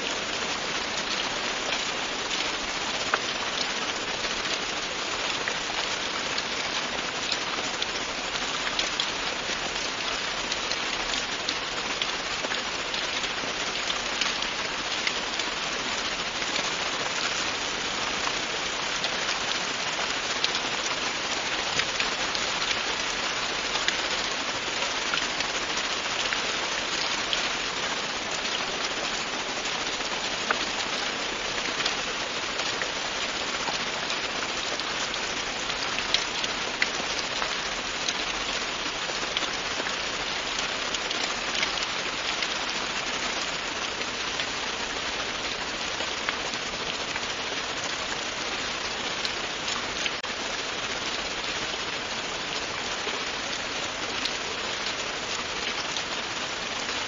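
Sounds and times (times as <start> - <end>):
steady rain falling: 0.0 - 57.0
raindrop ticks: 0.1 - 48.0.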